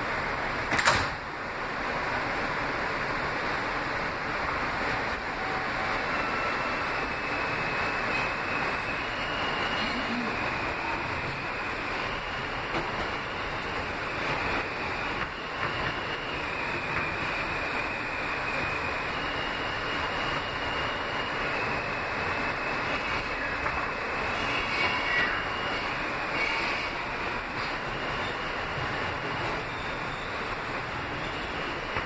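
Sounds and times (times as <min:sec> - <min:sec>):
subway wheels rumbling on rail: 0:00.0 - 0:32.0
high wheel squeal: 0:05.3 - 0:32.0.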